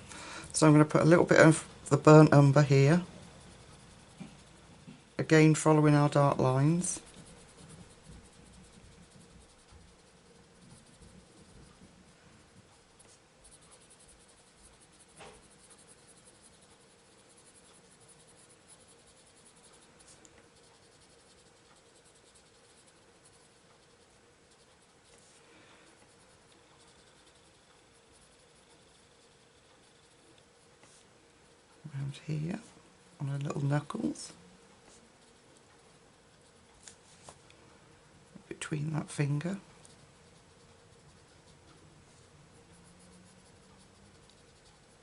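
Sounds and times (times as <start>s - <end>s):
pencil scratching on paper: 0.6s - 32.7s, 33.3s - 37.4s, 38.2s - 45.0s.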